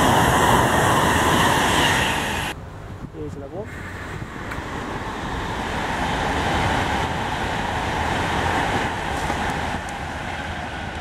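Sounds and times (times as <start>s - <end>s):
train passing at speed: 0.0s - 2.6s, 3.6s - 11.0s.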